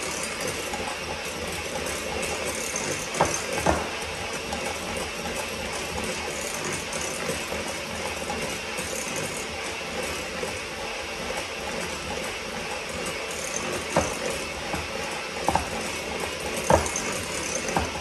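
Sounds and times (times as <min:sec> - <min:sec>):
electric hand mixer whipping: 0:00.0 - 0:18.0.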